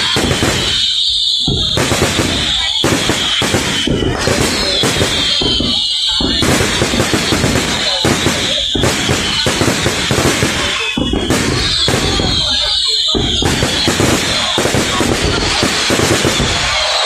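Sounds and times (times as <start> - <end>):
fireworks bangs and crackles: 0.0 - 17.0
high whistling tone: 0.0 - 17.0.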